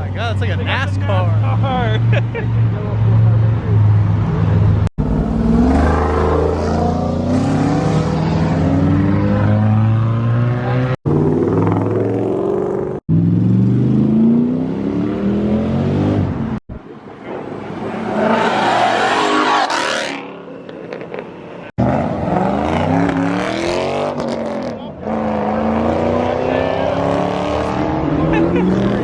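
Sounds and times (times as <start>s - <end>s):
performance car engines accelerating: 0.3s - 16.6s, 17.2s - 29.0s.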